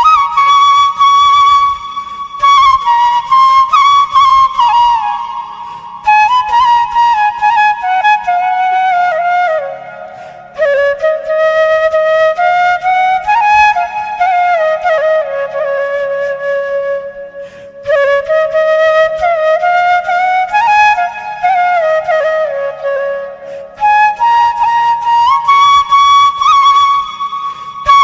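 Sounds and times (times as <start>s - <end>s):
slow solo flute melody: 0.0s - 28.0s.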